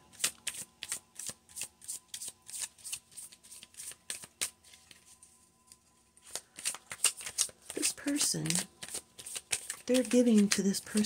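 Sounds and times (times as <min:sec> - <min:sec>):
cards being shuffled: 0:00.1 - 0:05.2, 0:06.2 - 0:11.0.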